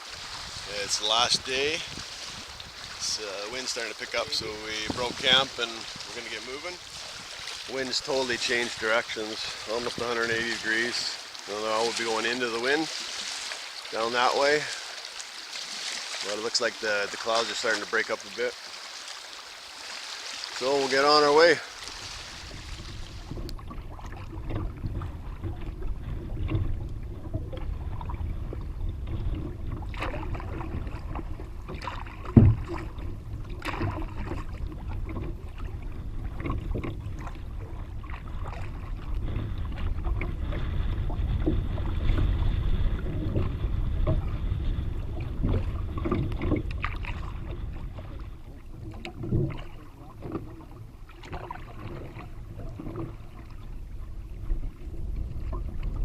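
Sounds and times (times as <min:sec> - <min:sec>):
wind rumble on microphone: 0:00.0 - 0:13.3, 0:21.5 - 0:56.0
paddle knocks and water: 0:00.0 - 0:56.0.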